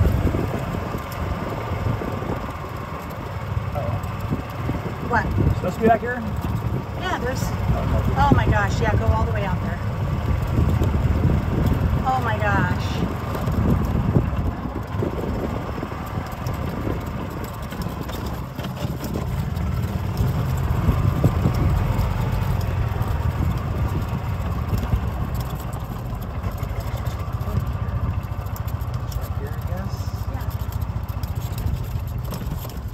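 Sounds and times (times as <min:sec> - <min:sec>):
cart knocking and rattling: 0:00.0 - 0:32.9
golf cart motor and tyres rumbling: 0:00.0 - 0:32.9.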